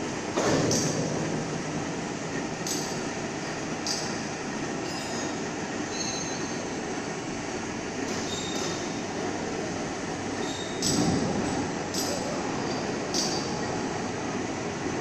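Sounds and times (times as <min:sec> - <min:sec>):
steady machinery noise: 0:00.0 - 0:15.0.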